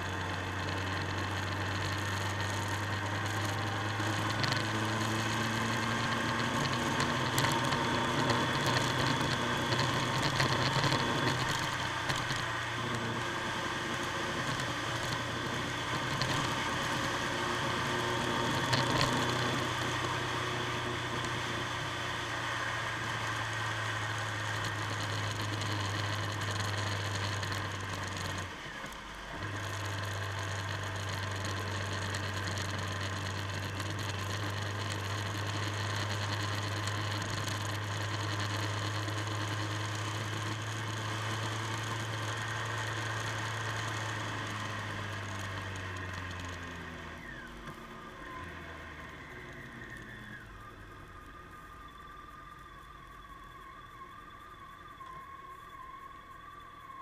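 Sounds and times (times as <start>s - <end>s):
motorcycle engine running: 0.0s - 53.7s
road noise: 0.0s - 57.0s.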